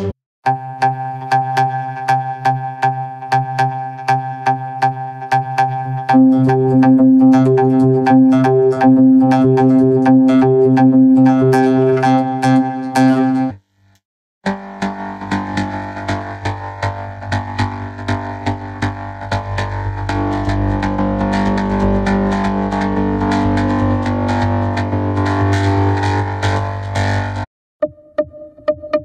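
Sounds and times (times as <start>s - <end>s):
synthesizer music: 0.0s - 13.6s, 14.4s - 29.0s.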